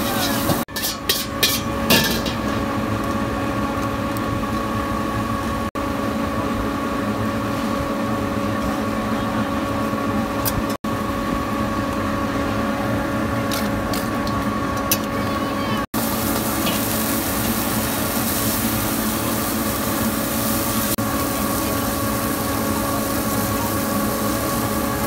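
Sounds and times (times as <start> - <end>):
kitchen equipment hum and rush: 0.0 - 25.0.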